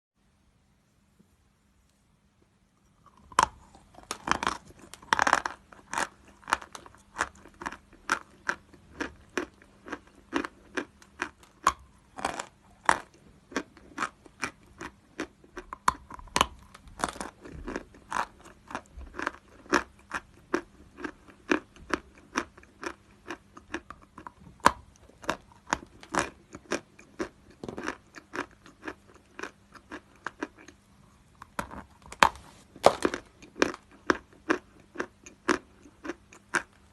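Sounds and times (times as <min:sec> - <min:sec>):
person chewing chalk crunchily: 0:03.0 - 0:36.9.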